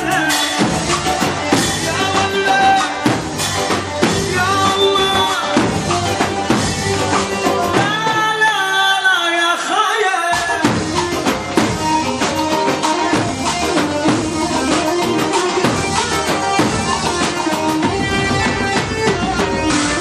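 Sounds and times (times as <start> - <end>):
drum beat: 0.0 - 8.4, 10.3 - 20.0
melodic lead line: 0.0 - 8.5, 10.5 - 20.0.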